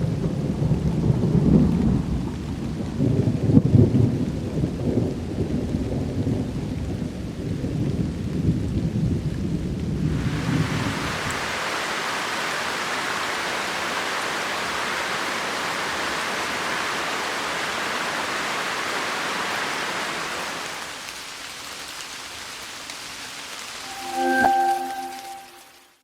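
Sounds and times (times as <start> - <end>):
heavy rain: 0.0 - 26.0
scattered raindrops: 0.0 - 26.0.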